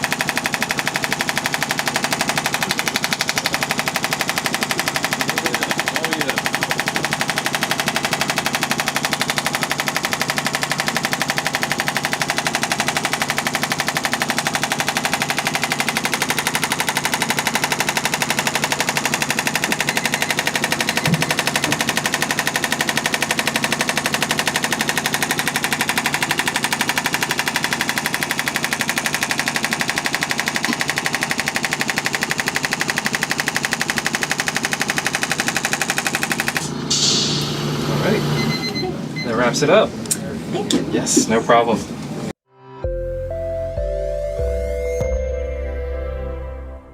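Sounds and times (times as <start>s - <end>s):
motor humming: 0.0s - 39.2s
massage device hammering pulses: 0.0s - 39.3s.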